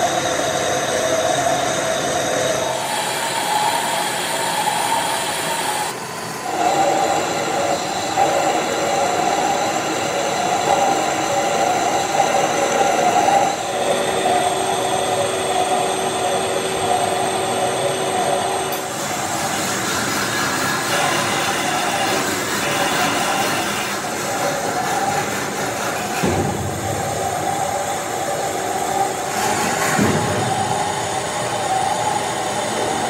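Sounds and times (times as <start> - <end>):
lathe cutting with whine: 0.0 - 33.0
machine hum: 0.0 - 33.0.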